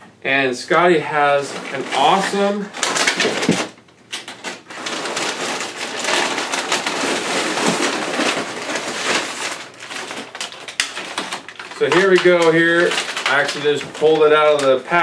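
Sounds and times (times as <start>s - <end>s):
packing paper crinkling: 1.1s - 15.0s.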